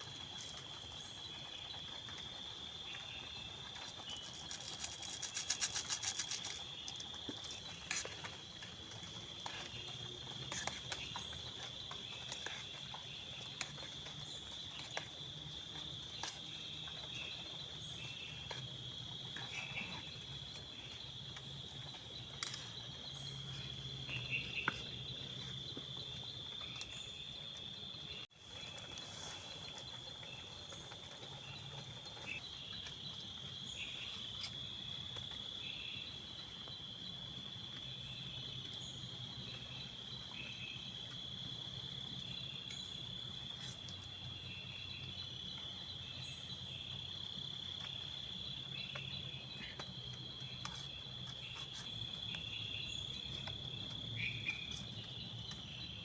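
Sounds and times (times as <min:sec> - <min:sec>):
insect chirps: 0:00.0 - 0:56.0
insect chorus trilling: 0:00.0 - 0:56.0.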